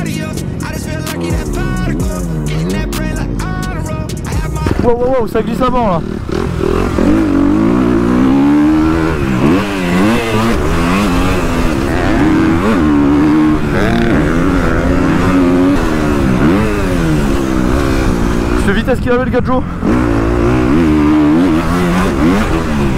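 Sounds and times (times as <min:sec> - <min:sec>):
motocross bike engine revving: 0:00.0 - 0:03.7, 0:04.3 - 0:22.9.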